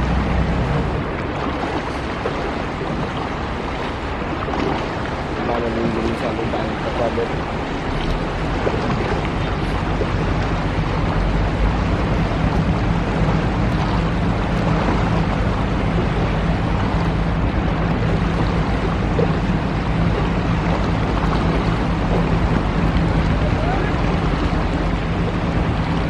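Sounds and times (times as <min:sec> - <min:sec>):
diesel engine humming: 0:00.0 - 0:01.3, 0:05.1 - 0:26.0
water rushing: 0:00.0 - 0:26.0.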